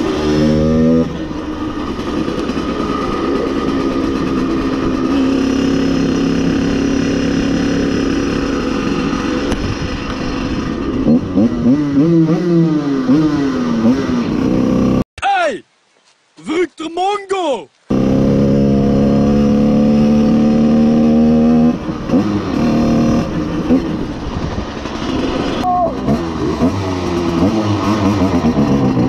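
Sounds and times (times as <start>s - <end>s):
moped two-stroke engine revving: 0.0s - 15.0s, 17.9s - 29.0s.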